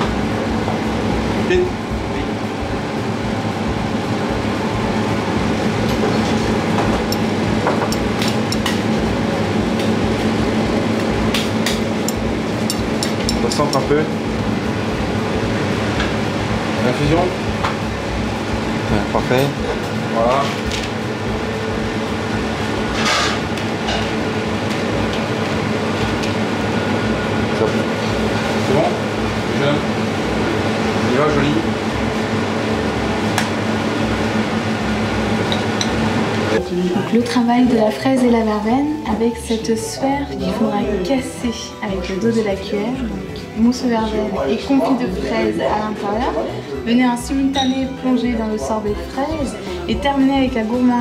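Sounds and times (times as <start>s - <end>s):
ventilation machinery humming: 0.0s - 51.0s.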